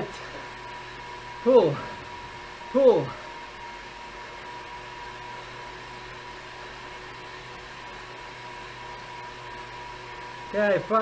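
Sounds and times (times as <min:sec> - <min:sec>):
indoor bike trainer whirring: 0:00.0 - 0:11.0.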